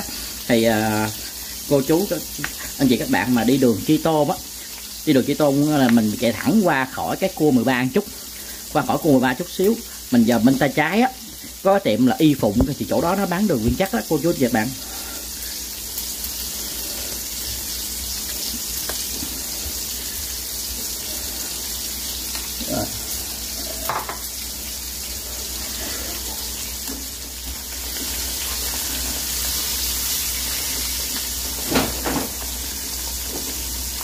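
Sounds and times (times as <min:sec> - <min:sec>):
fish sizzling in oil: 0:00.0 - 0:34.0.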